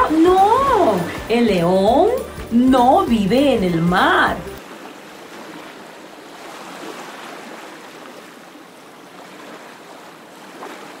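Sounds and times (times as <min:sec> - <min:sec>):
ocean waves: 0:00.0 - 0:11.0.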